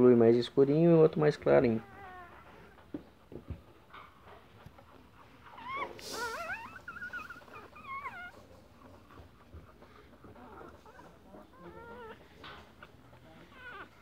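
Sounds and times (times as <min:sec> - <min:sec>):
puppies squealing and whimpering: 0:01.2 - 0:14.0.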